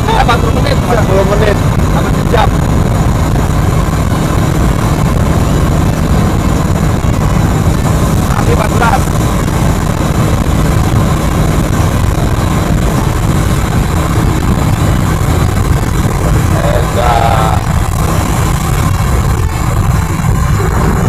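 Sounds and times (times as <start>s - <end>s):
coach engine and road rumble: 0.0s - 21.0s.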